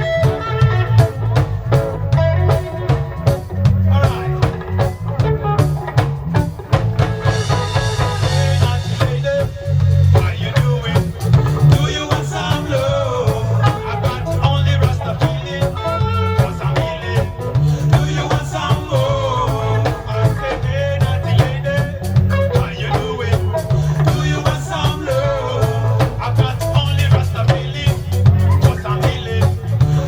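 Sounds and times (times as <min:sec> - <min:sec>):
reggae band playing: 0:00.0 - 0:30.0.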